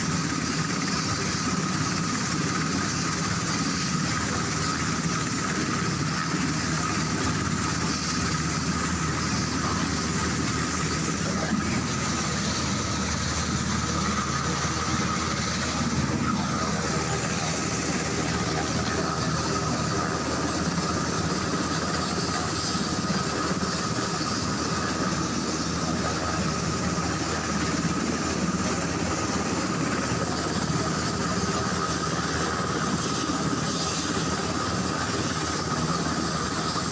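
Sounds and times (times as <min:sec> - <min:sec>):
engine and rotor rush: 0:00.0 - 0:36.9
helicopter turbine whine: 0:00.0 - 0:36.9.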